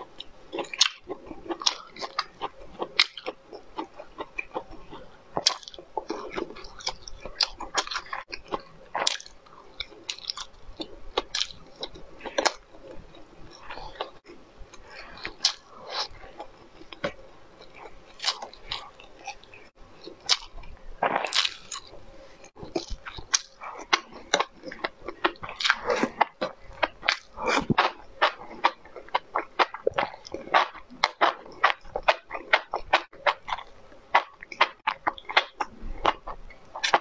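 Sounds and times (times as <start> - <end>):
wet chewing and lip-smacking: 0.1 - 37.0.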